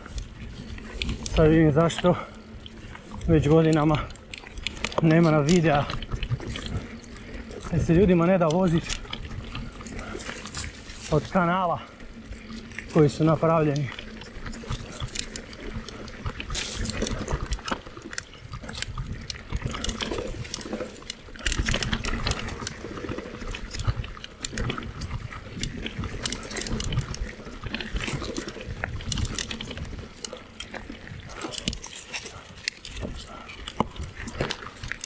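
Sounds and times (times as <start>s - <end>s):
bike knocking and rattling: 0.0s - 35.0s
tyres crunching over dirt and rocks: 0.0s - 35.0s.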